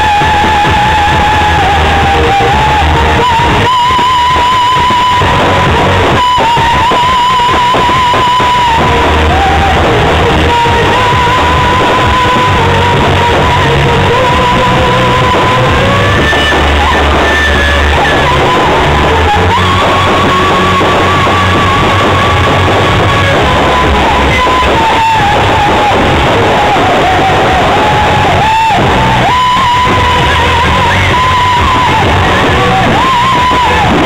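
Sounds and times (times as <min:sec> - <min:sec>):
loud rock music: 0:00.0 - 0:34.0.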